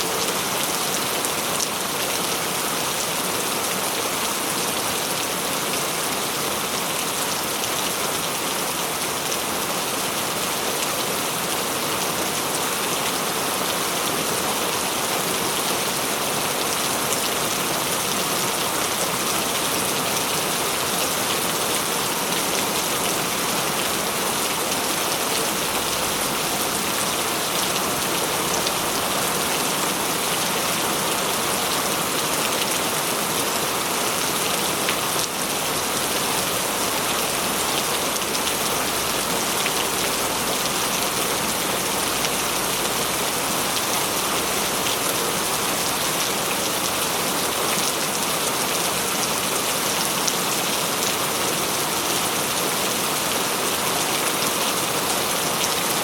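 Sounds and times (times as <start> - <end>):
steady rain splashing: 0.0 - 56.0.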